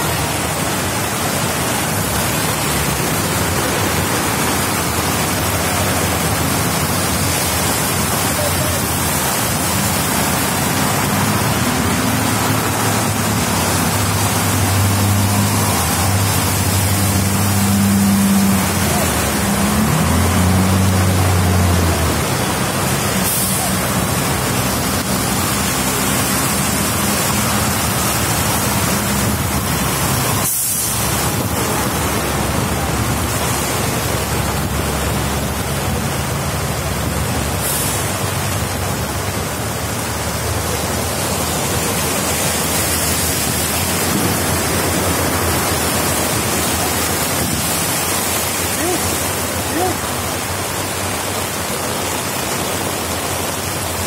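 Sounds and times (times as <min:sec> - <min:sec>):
floodwater flowing across road: 0:00.0 - 0:54.0
heavy rain: 0:00.0 - 0:54.0
truck engine humming: 0:00.0 - 0:54.0.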